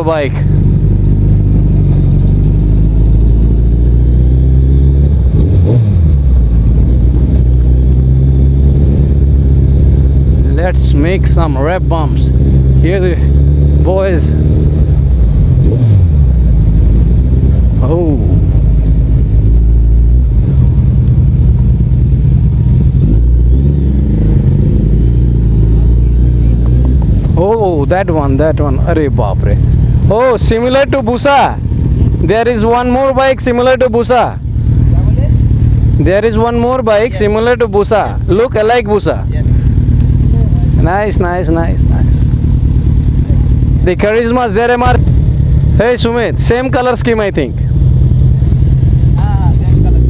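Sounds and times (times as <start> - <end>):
motorcycle engine running at low revs: 0.0 - 50.0.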